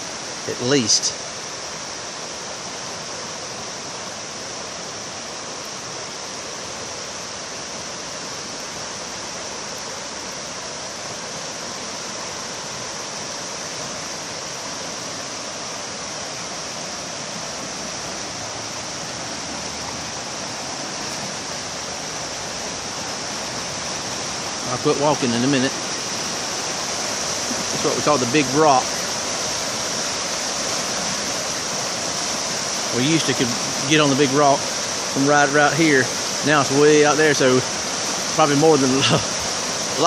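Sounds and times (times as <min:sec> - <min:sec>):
river water rushing: 0:00.0 - 0:40.0
steady high hiss: 0:00.0 - 0:40.0.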